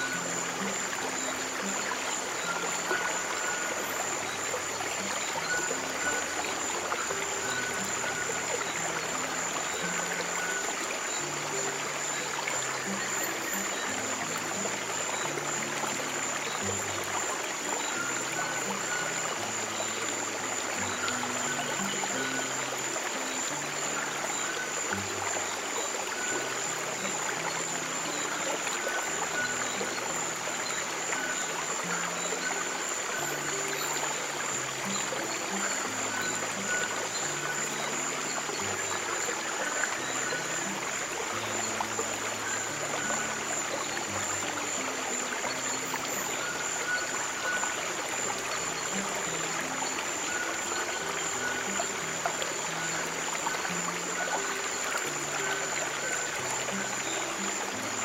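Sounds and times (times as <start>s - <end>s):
slow low sustained music: 0.0s - 58.0s
stream water flowing: 0.0s - 58.0s.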